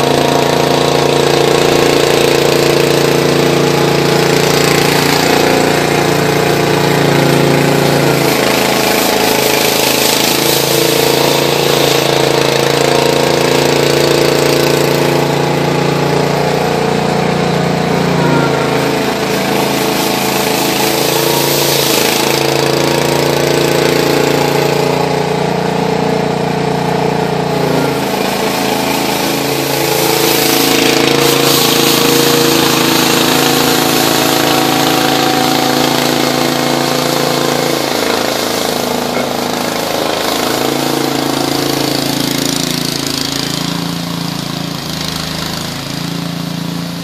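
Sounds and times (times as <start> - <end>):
garden tractor engine running: 0.0 - 47.0
rotating broom rushing hiss: 1.2 - 47.0.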